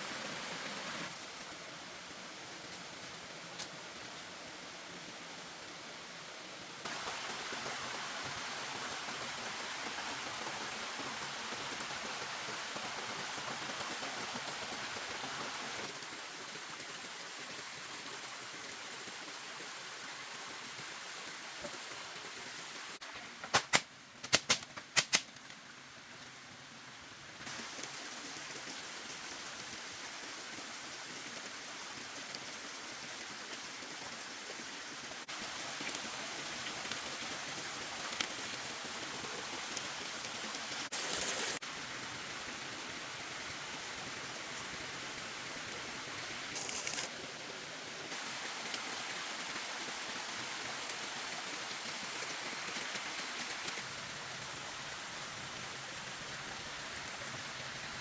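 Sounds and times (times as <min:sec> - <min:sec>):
rain hissing: 0:06.8 - 0:23.0, 0:27.4 - 0:58.0.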